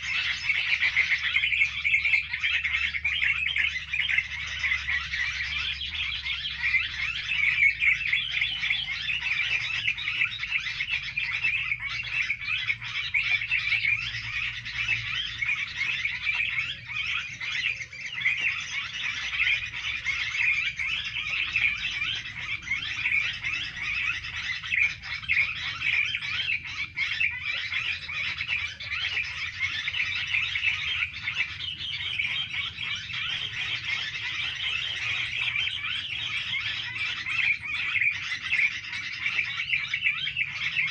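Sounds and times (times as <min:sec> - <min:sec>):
songbirds chattering: 0:00.0 - 0:40.9.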